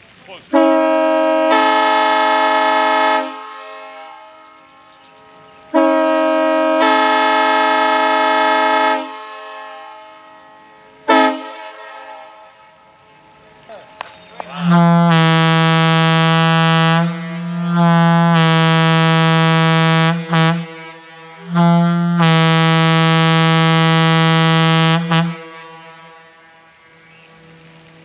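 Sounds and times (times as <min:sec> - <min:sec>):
air horn blasts: 0:00.5 - 0:04.6, 0:05.7 - 0:13.1, 0:14.6 - 0:27.6.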